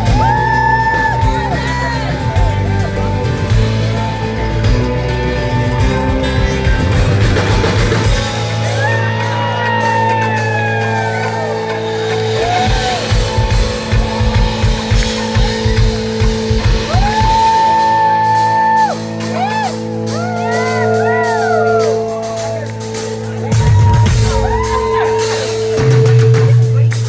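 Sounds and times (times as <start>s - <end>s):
drum beats: 0.0s - 27.0s
live rock band: 0.0s - 27.0s.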